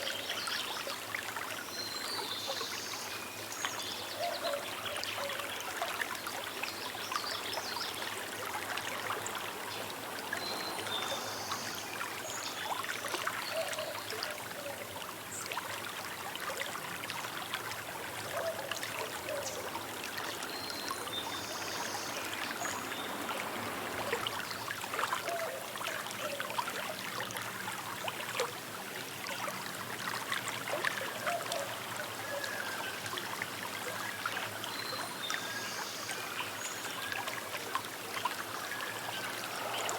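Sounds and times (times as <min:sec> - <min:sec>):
river burbling over stones: 0:05.5 - 0:39.9.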